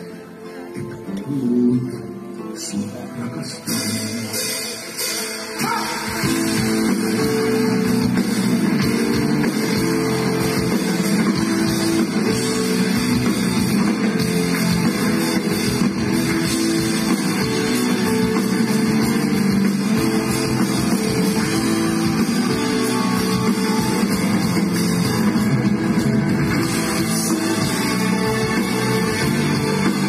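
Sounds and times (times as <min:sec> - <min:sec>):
rock band playing instrumental: 0:03.6 - 0:30.0.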